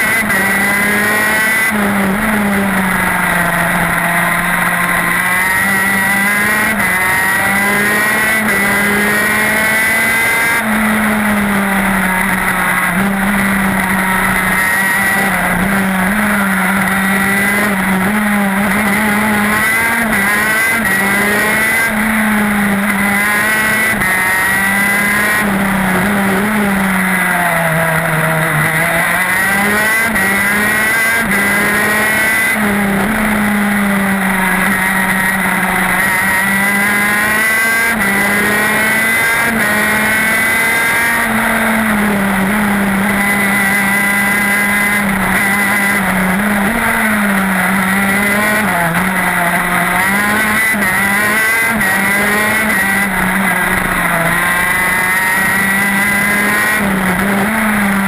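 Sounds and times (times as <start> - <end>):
two-stroke kart engine racing: 0.0 - 58.0.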